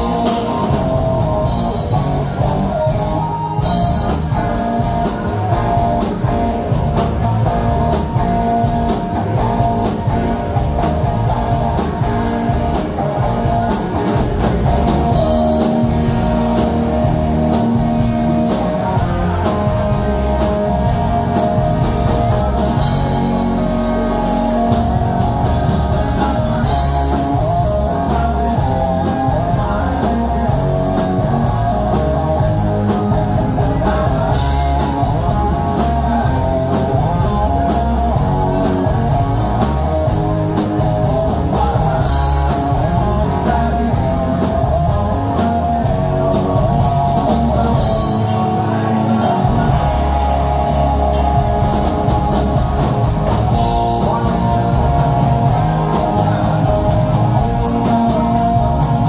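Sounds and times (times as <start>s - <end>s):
bass guitar: 0.0s - 59.0s
drum kit: 0.0s - 59.0s
electric guitar: 0.0s - 59.0s
man singing: 0.0s - 59.0s.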